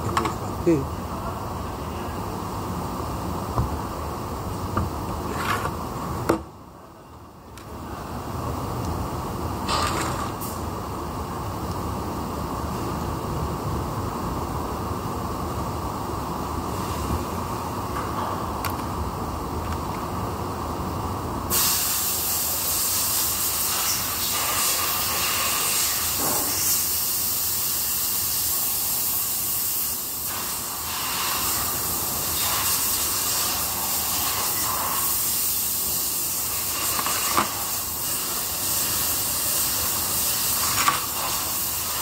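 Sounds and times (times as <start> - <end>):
steady hiss: 0.0 - 42.0.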